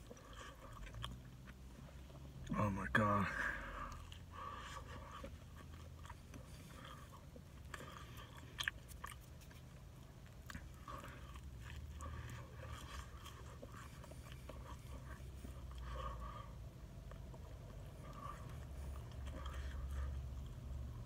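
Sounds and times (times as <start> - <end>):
person chewing pizza: 0.0 - 21.0
steady low hum: 0.0 - 21.0.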